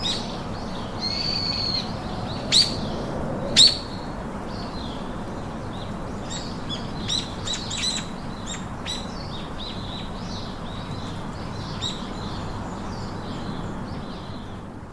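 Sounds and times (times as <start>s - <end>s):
small birds chirping: 0.0s - 14.7s
steady background hiss: 0.0s - 14.9s.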